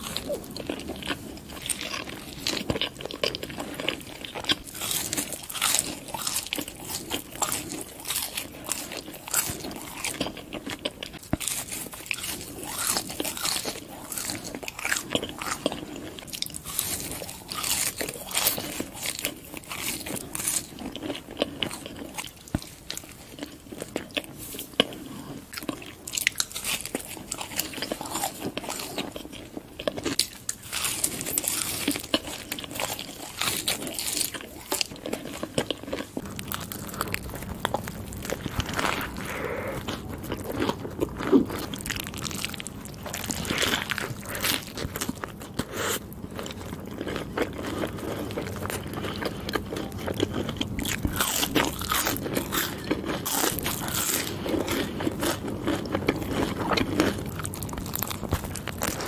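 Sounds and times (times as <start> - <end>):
chewing crisp fries: 0.0 - 59.0
faint low hum: 0.0 - 59.0
wet chewing of burger: 0.0 - 59.0.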